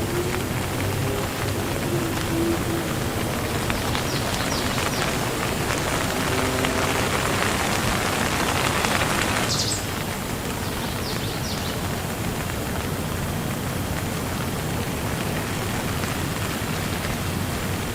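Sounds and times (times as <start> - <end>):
steady rainfall: 0.0 - 17.9.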